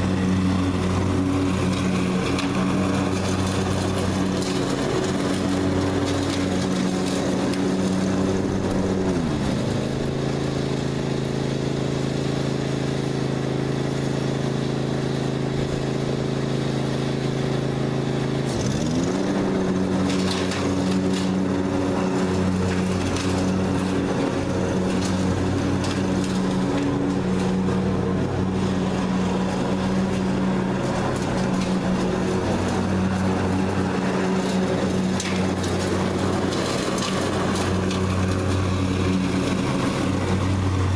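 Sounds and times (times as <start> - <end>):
riding mower engine running: 0.0 - 40.9.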